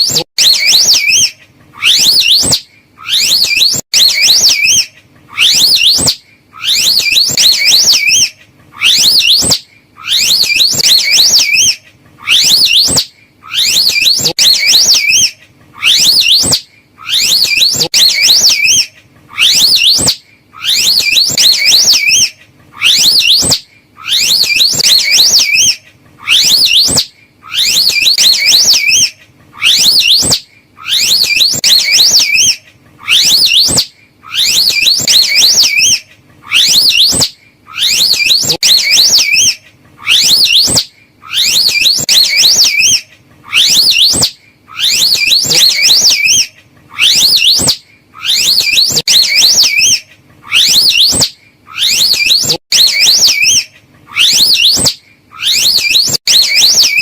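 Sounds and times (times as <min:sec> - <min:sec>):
high-pitched warbling animal calls: 0:00.0 - 0:57.0.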